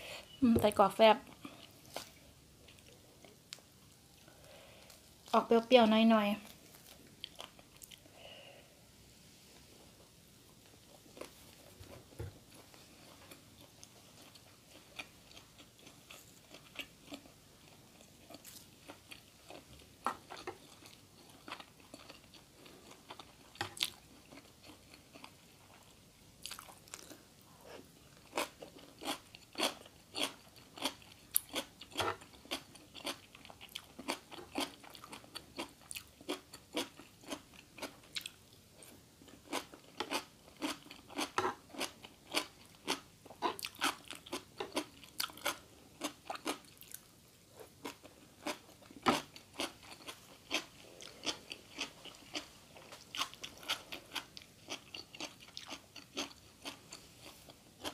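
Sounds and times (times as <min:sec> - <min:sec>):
person chewing crunchy food: 0:06.4 - 0:08.1, 0:10.9 - 0:57.9.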